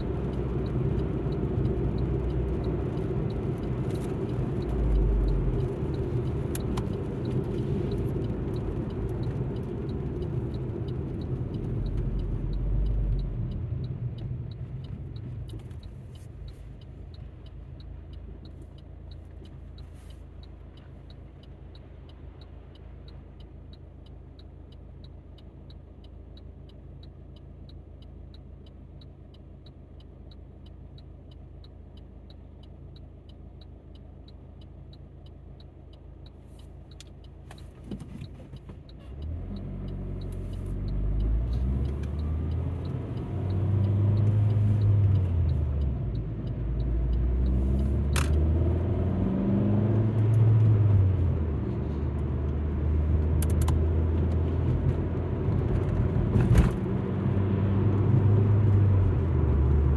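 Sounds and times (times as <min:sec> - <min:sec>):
faint ticking: 0:00.0 - 0:56.1
low engine hum: 0:00.0 - 0:59.9
road and engine noise in car: 0:00.0 - 0:59.9.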